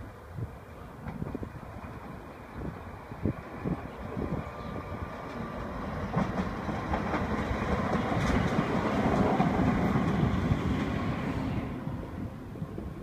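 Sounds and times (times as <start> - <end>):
train wheels rumbling on rails: 0.4 - 13.0.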